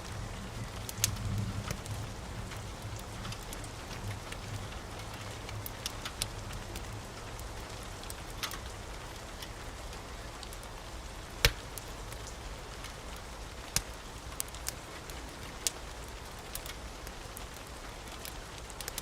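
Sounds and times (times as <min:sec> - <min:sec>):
rain hiss: 0:00.0 - 0:19.0
wood fire crackling and popping: 0:00.1 - 0:19.0.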